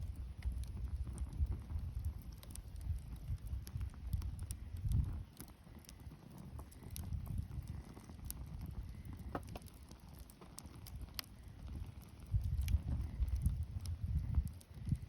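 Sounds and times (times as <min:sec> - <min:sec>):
campfire crackling: 0:00.0 - 0:15.0
fire pops and snaps: 0:00.0 - 0:15.0
low fire rumble: 0:00.0 - 0:15.0.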